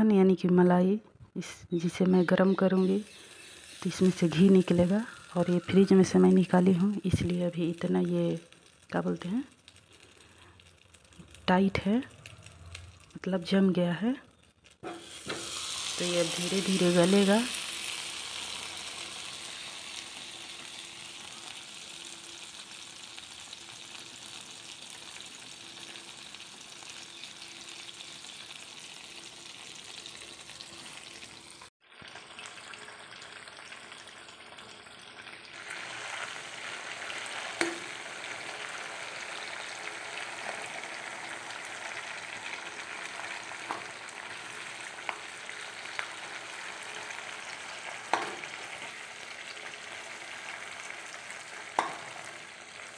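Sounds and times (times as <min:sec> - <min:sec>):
cream sizzling and bubbling: 0:02.7 - 0:52.9.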